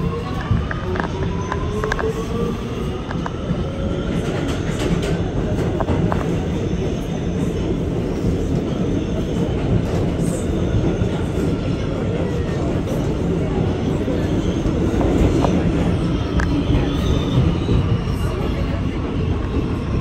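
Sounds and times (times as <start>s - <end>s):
subway train wheels rumbling: 0.0s - 20.0s.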